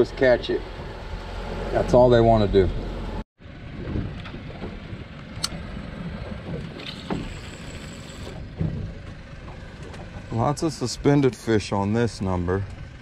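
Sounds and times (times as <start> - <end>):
water around a boat: 0.0 - 13.0
wind: 0.0 - 13.0.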